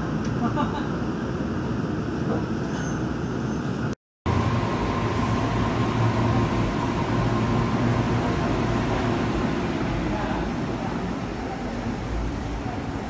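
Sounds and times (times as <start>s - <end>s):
train hum with low drone: 0.0s - 13.0s
train running gear and ventilation: 0.0s - 13.0s.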